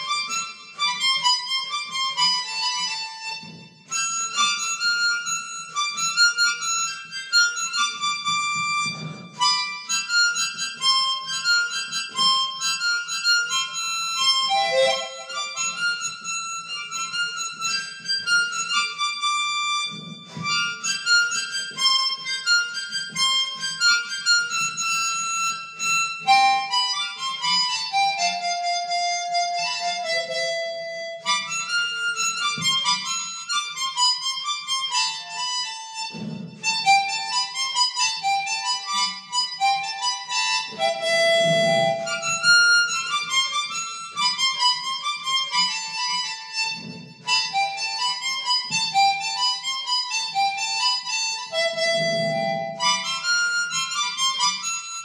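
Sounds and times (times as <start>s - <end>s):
harmonica melody: 0.0s - 55.0s.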